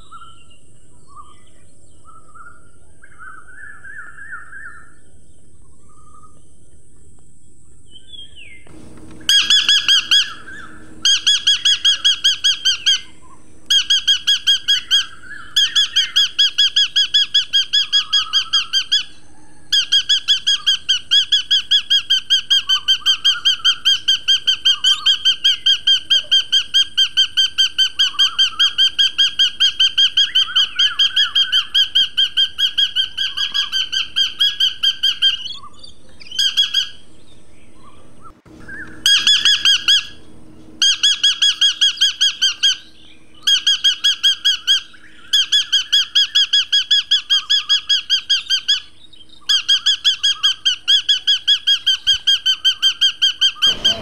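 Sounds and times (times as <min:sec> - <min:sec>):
bird chirping rapidly: 0:08.1 - 0:54.0.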